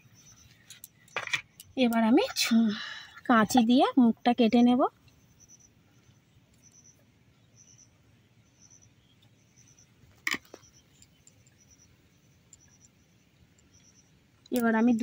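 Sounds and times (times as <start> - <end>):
high insect chirping: 0.0 - 15.0.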